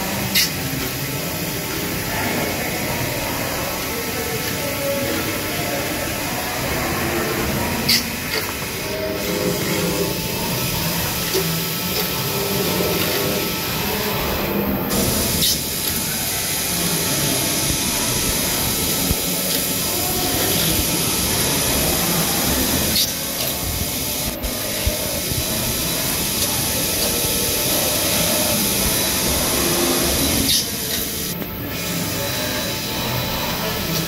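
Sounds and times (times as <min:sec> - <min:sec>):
coolant spray hissing: 0:00.0 - 0:31.4
machine drilling steel: 0:05.2 - 0:34.0.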